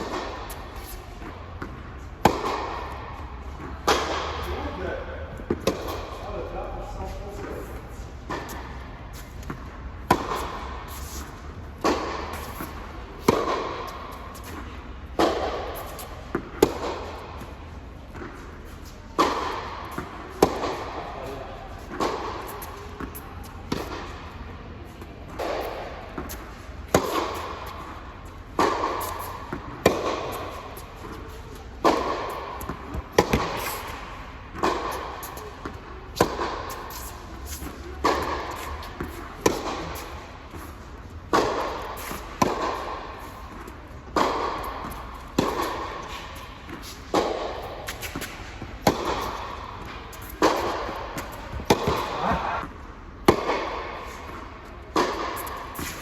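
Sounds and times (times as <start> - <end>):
tennis ball struck by racquets: 0.0 - 4.8, 5.4 - 6.2, 8.2 - 18.6, 19.2 - 24.4, 25.3 - 56.0
ball bouncing on hard court: 0.0 - 6.4, 8.2 - 18.5, 19.2 - 24.4, 25.3 - 40.7, 41.3 - 56.0.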